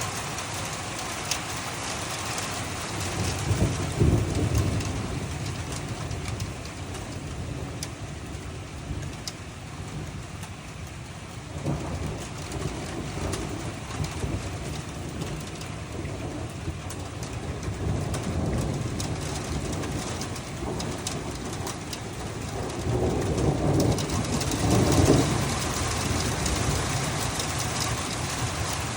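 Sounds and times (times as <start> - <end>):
rain drops ticking: 0.0 - 28.9
steady rain falling: 0.0 - 28.9.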